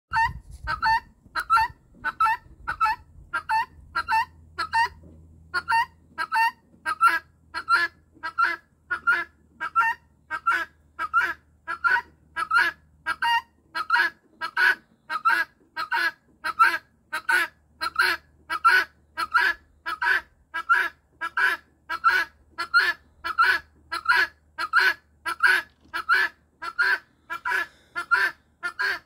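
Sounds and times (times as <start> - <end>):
guineafowl calling: 0.1 - 29.0.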